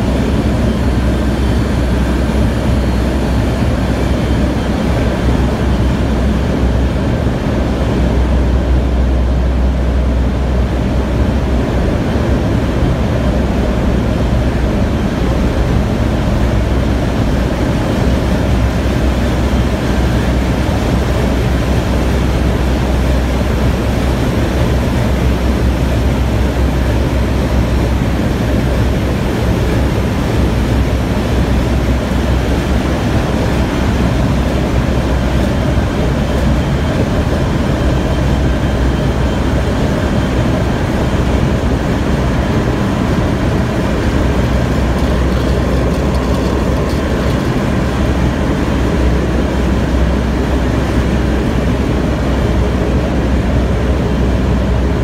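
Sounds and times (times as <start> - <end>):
deep machinery hum: 0.0 - 55.0
engine-room machinery roar: 0.0 - 55.0.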